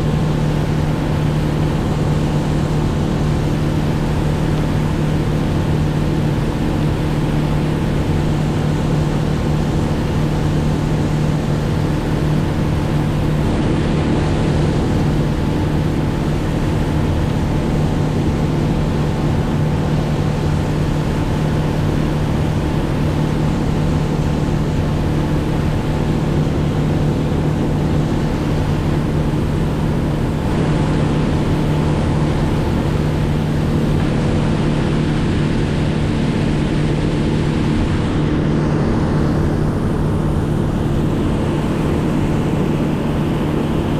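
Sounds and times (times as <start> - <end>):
engine droning steadily: 0.0 - 43.9.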